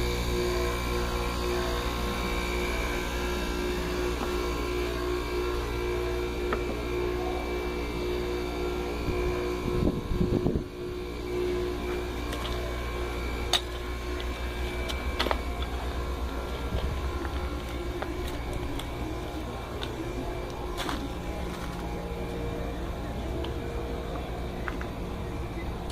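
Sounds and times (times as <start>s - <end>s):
compressor electric hum: 0.0s - 25.9s.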